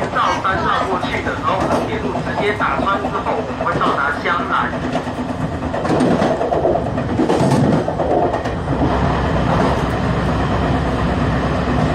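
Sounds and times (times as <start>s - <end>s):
train wheels rumbling on rail: 0.0s - 11.9s.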